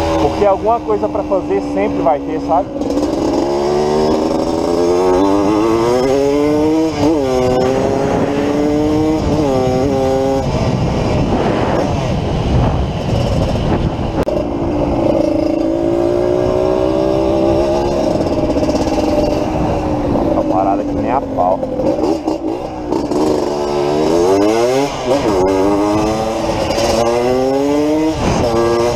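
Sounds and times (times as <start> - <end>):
two-stroke motorcycle engine: 0.0 - 28.9
wind and road noise: 0.0 - 28.9.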